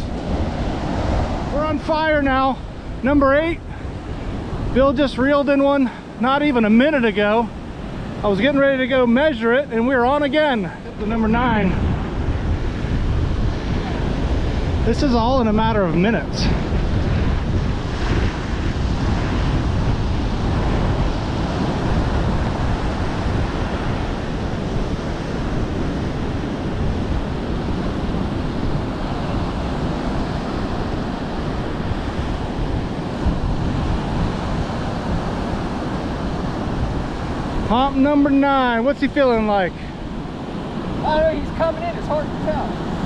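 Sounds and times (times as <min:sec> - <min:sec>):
surf breaking on beach: 0:00.0 - 0:43.0
wind buffeting microphone: 0:00.0 - 0:43.0.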